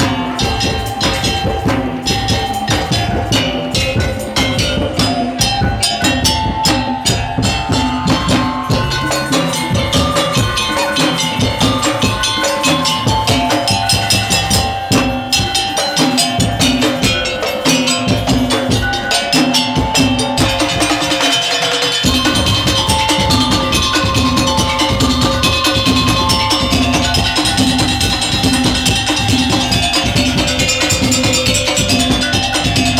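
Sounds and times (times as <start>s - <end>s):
drums and struck percussion: 0.0s - 32.9s
melody of held notes: 0.0s - 32.9s.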